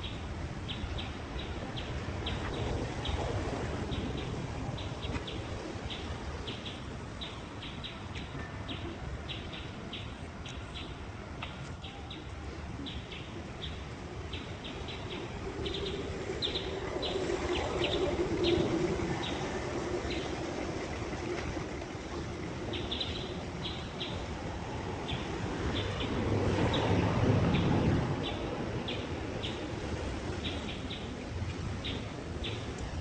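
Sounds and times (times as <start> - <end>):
birds chirping: 0.0 - 29.7
steady low rumble: 0.0 - 33.0.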